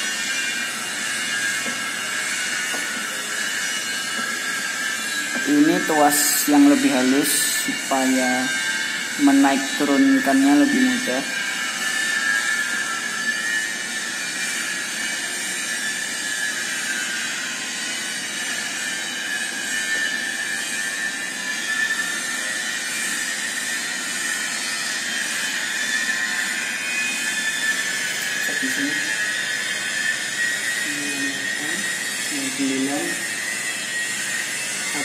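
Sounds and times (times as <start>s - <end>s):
machine hiss with constant whine: 0.0s - 35.0s.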